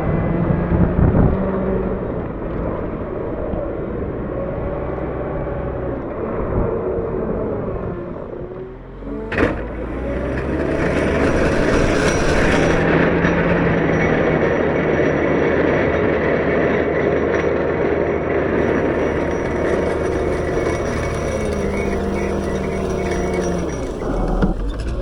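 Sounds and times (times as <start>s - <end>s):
diesel engine rumbling under load: 0.0s - 25.0s.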